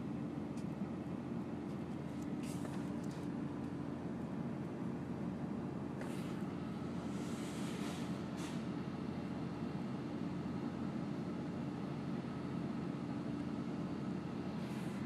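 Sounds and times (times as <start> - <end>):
low equipment hum: 0.0 - 15.0.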